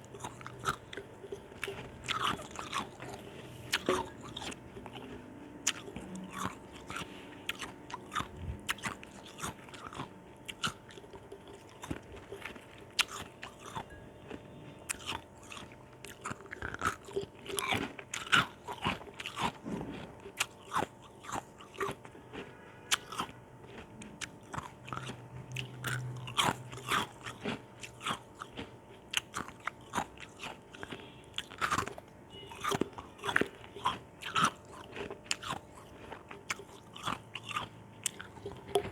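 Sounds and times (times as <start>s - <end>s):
chewing ice crunches: 0.0s - 38.9s.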